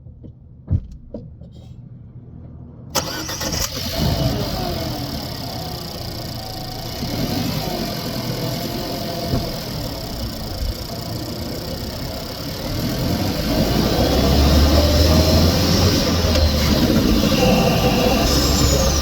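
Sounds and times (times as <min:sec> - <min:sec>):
car engine running: 0:03.0 - 0:19.0.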